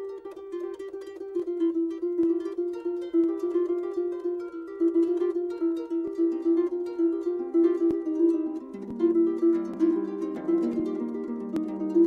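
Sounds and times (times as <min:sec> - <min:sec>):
harp plucked notes: 0:00.0 - 0:12.0.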